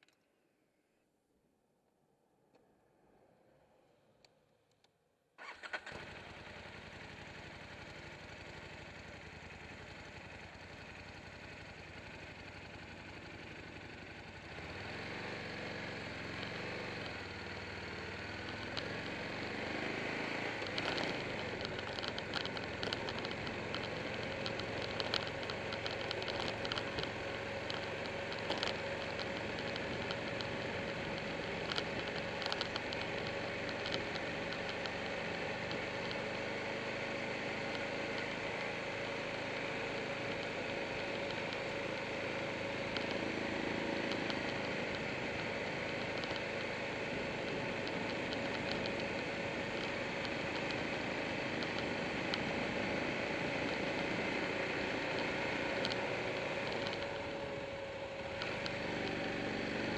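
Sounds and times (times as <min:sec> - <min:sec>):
motorcycle engine starting and revving: 0:05.4 - 0:59.9.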